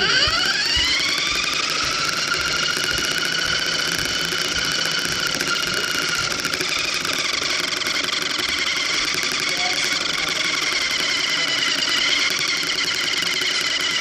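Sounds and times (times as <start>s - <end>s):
drivetrain rattly crackle: 0.0s - 14.0s
rc car motor whining: 0.0s - 14.0s.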